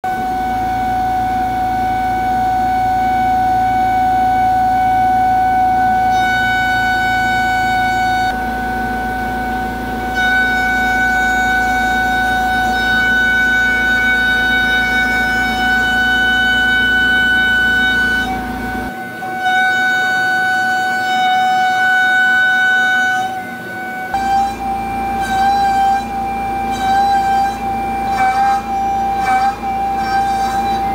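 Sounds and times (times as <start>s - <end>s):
mill spindle cutting metal whine: 0.0s - 30.9s.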